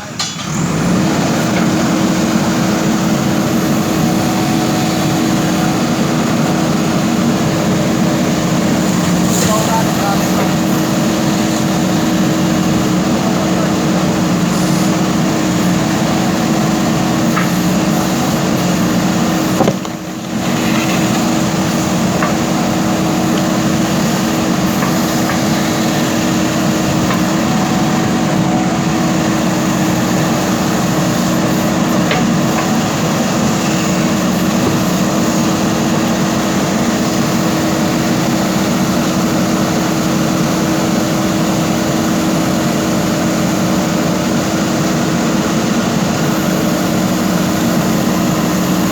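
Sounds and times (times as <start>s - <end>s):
backhoe diesel engine running: 0.0s - 48.9s.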